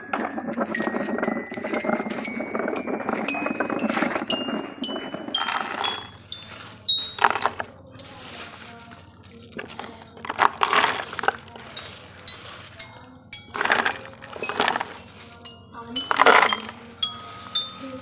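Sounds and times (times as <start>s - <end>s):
pebbles clattering into toy truck: 0.0s - 18.0s.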